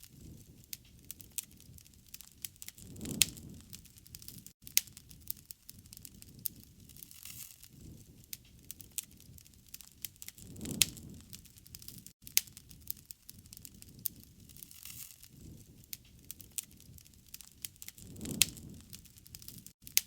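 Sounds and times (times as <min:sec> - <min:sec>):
campfire crackling and popping: 0:00.0 - 0:20.0
flames rumbling: 0:00.1 - 0:19.8.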